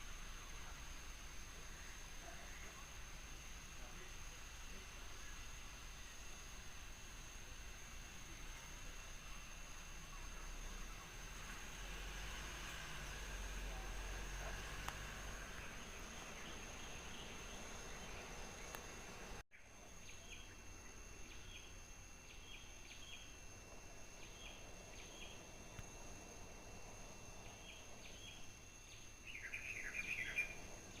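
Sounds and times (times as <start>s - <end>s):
steady high hum: 0.0s - 31.0s.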